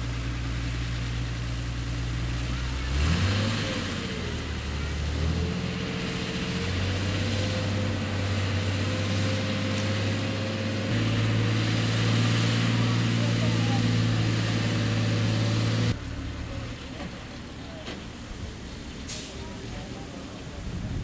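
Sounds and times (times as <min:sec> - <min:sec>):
locomotive diesel engine running: 0:00.0 - 0:21.0.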